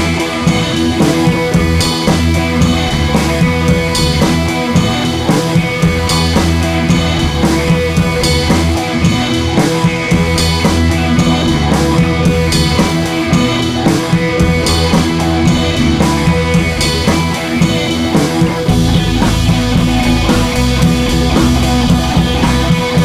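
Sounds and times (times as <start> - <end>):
rock music with electric guitar: 0.0 - 23.0.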